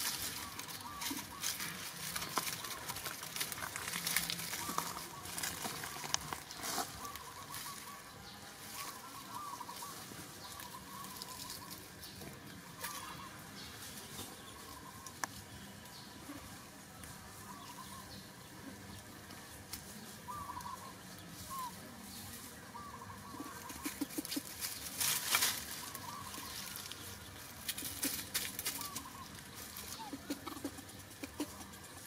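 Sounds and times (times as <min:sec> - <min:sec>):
dry leaves rustling and crackling: 0:00.0 - 0:32.0.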